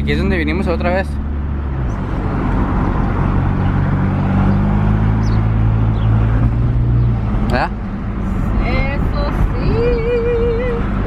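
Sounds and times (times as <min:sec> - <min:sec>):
car engine hum: 0:00.0 - 0:11.0
road rumble: 0:00.0 - 0:11.0.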